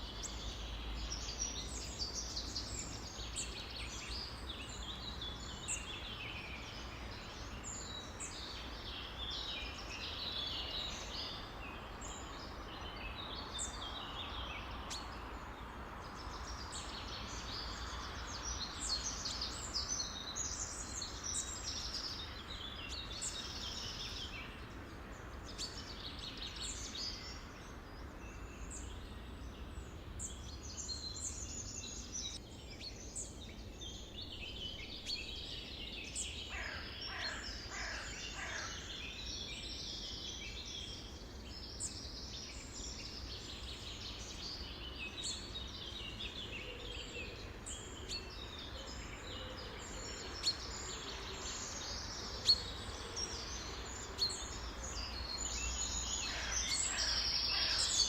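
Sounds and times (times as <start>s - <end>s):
many birds singing and calling: 0.0s - 58.0s.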